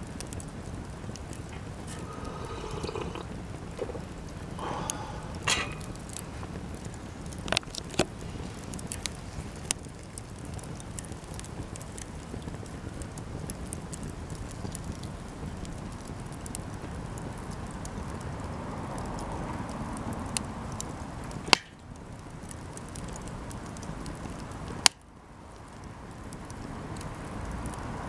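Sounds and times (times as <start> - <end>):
campfire crackling and popping: 0.0 - 28.0
low rush of fire: 0.0 - 28.0.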